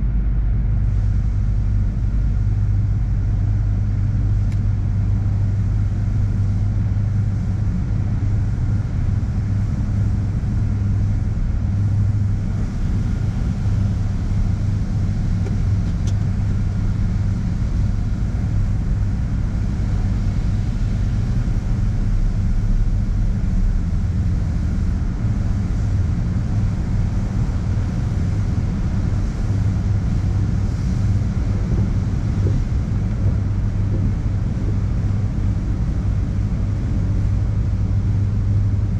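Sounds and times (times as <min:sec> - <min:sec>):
car wash machinery running: 0:00.0 - 0:38.9
car engine running: 0:00.8 - 0:23.9, 0:24.5 - 0:38.8.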